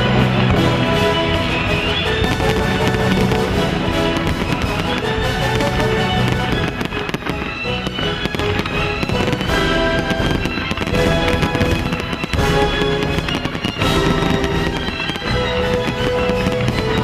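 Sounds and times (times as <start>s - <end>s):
fireworks crackling: 0.0s - 17.0s
music with held notes: 0.0s - 17.0s.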